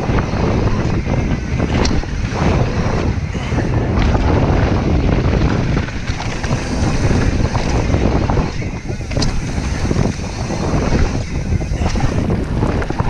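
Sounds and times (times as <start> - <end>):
bike clicks and knocks: 0.0 - 13.0
tyres rolling on gravel: 0.0 - 13.0
wind buffeting microphone: 0.0 - 13.0.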